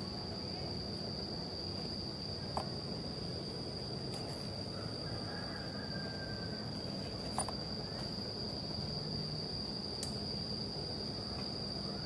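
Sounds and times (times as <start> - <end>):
high-pitched insect drone: 0.0 - 12.0
low forest hum: 0.0 - 12.0.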